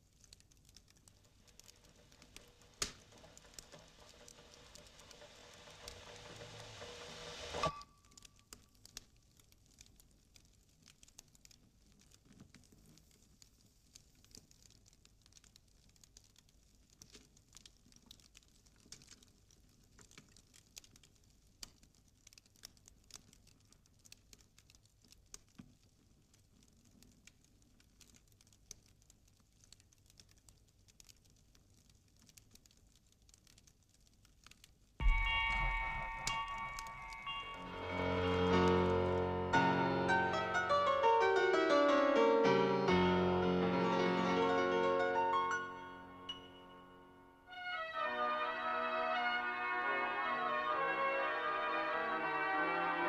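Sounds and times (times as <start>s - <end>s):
faint clicks and crackles: 0.0s - 53.0s.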